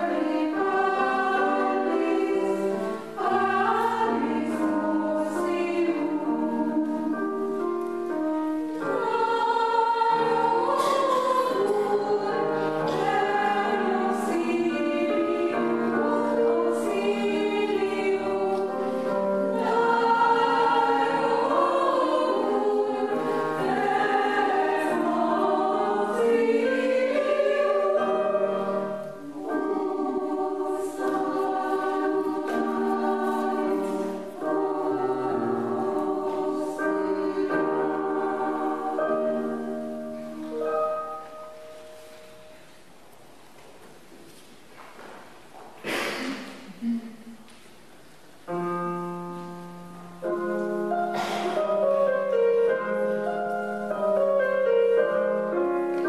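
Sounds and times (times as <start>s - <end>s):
women's choir singing: 0.0s - 42.6s, 48.5s - 56.0s.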